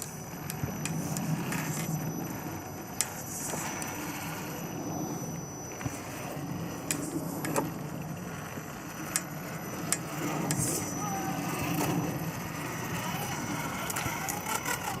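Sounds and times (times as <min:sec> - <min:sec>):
lathe motor humming: 0:00.0 - 0:15.0.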